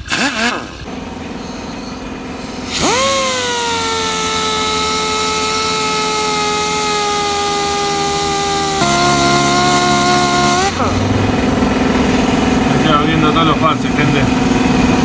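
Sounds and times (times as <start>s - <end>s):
orbital sander whining on metal: 0.0s - 15.0s.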